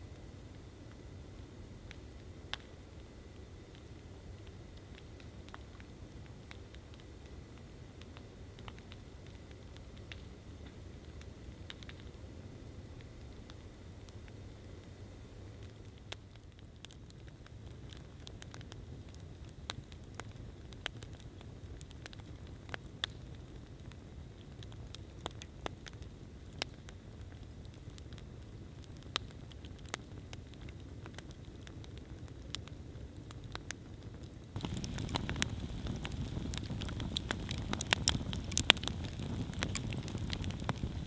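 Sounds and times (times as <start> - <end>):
low fire rumble: 0.1 - 41.0
campfire crackling and popping: 0.2 - 41.0.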